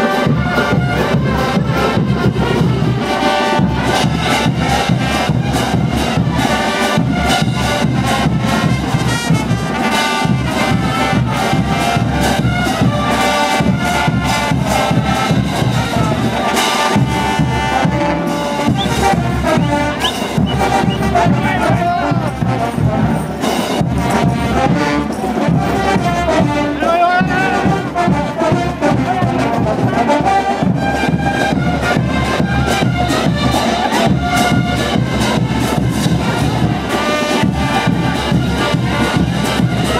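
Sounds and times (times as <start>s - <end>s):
percussion beat: 0.0s - 39.9s
trumpets and trombones: 0.0s - 39.9s.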